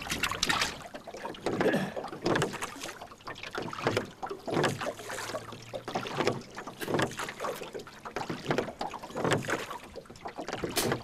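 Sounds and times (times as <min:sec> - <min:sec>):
knocks in rowboat: 0:00.0 - 0:11.0
water noises: 0:00.0 - 0:11.0.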